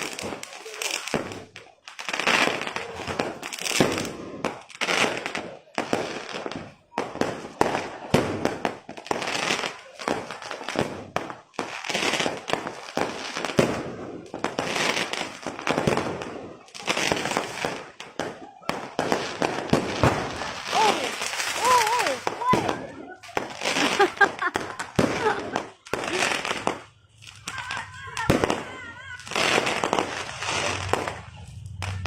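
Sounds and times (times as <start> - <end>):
fireworks and firecrackers: 0.0 - 32.0.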